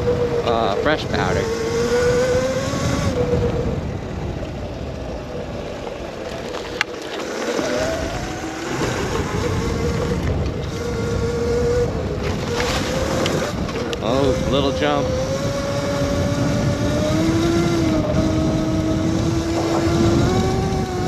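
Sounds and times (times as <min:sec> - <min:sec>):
electric motor whining: 0:00.0 - 0:21.0
wind buffeting on microphone: 0:00.0 - 0:21.0.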